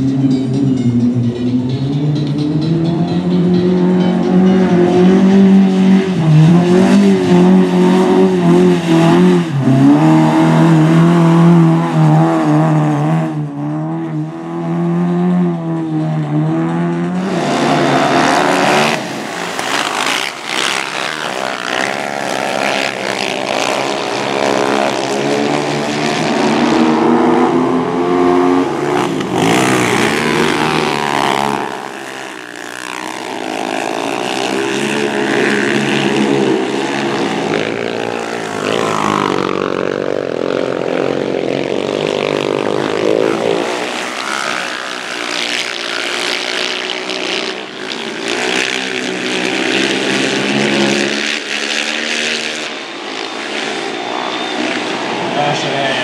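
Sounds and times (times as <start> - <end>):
racing quad engines revving: 0.0 - 56.0.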